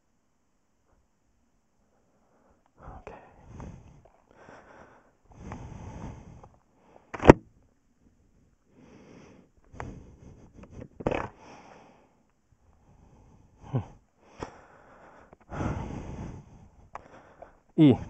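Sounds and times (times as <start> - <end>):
heavy breathing in helmet: 2.0 - 7.2, 8.6 - 18.0.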